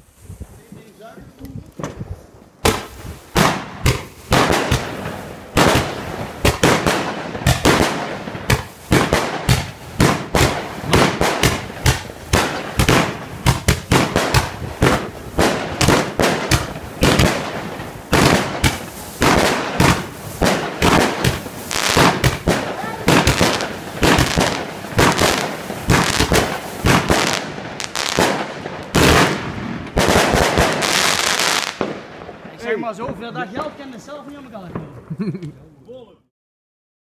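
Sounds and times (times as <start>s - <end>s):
fireworks bangs and crackles: 0.0s - 35.4s.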